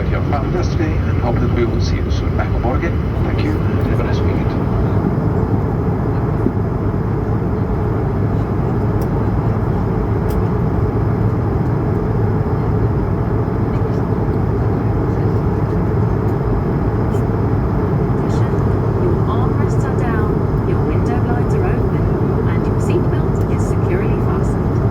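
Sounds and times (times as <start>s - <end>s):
air rushing along fuselage: 0.0s - 24.9s
jet engines running: 0.0s - 24.9s
low hum: 0.0s - 24.9s.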